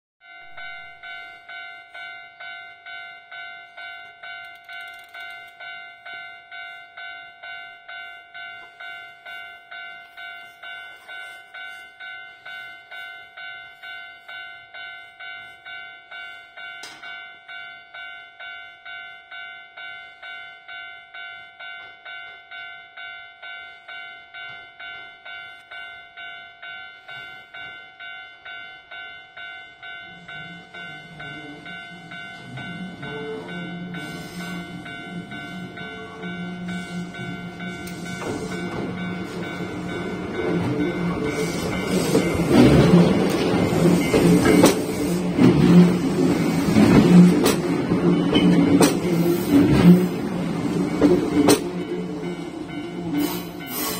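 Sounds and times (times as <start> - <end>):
level crossing warning bell: 0.2 - 53.9.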